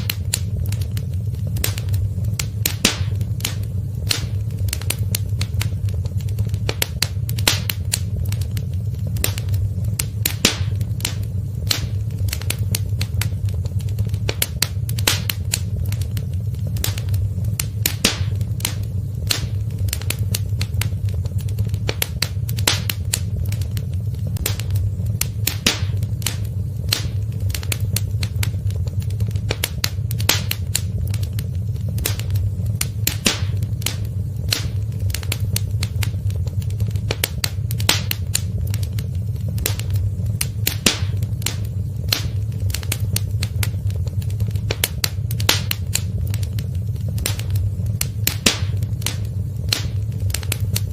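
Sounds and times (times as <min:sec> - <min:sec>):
low fire rumble: 0:00.0 - 0:50.9
wood fire crackling: 0:00.0 - 0:50.9.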